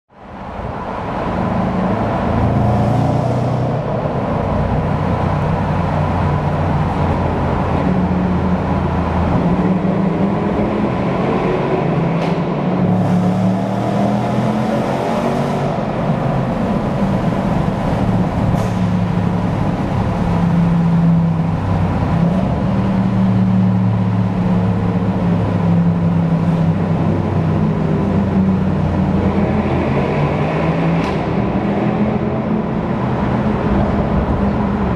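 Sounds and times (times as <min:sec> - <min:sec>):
car engines droning in tunnel: 0:00.1 - 0:34.9.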